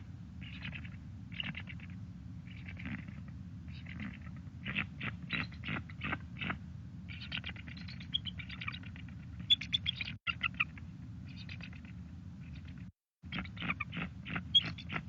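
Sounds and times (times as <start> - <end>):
steady low hum: 0.0 - 15.0
eagle calling with high chirps: 0.4 - 15.0.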